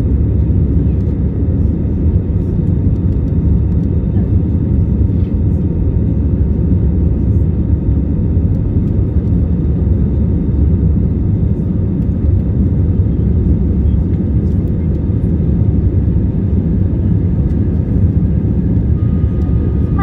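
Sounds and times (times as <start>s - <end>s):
faint engine whine: 0.0s - 20.0s.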